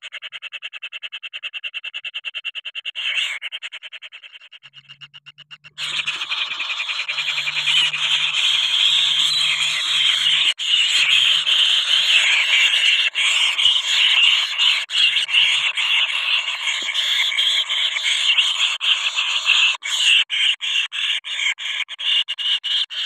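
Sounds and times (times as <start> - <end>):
nestlings rasping begging calls: 2.8 - 23.0.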